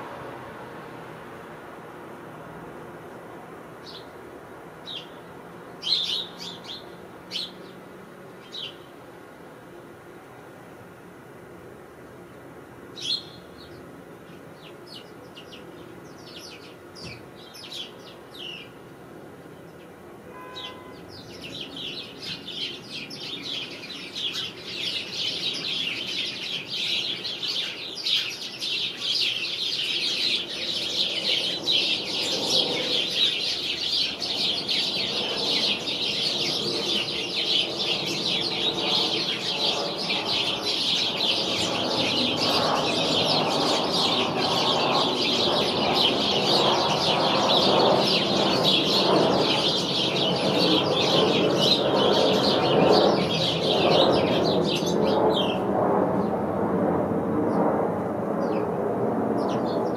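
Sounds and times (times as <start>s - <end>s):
flock of sparrows chirping: 3.0s - 9.0s, 12.2s - 56.4s, 57.4s - 59.9s.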